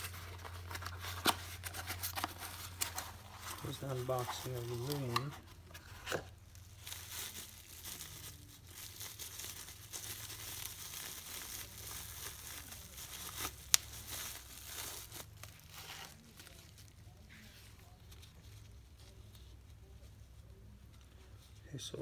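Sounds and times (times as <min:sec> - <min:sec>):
packaging crinkled and torn: 0:00.0 - 0:19.5.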